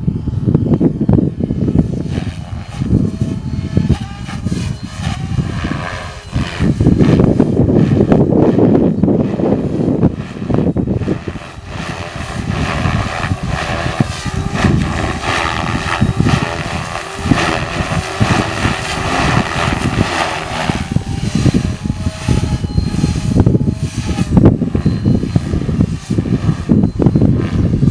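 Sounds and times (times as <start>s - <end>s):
rc helicopter rotor and motor whine: 0.0s - 27.9s
wind rumble on microphone: 0.0s - 27.9s.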